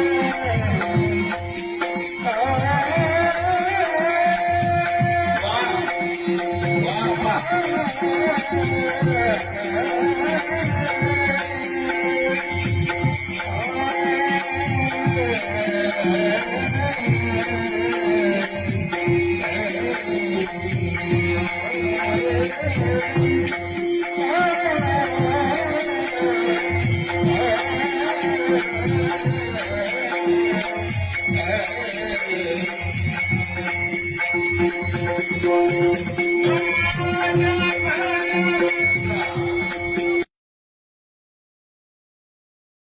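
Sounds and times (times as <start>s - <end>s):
person singing: 0.0s - 33.8s, 35.1s - 40.3s.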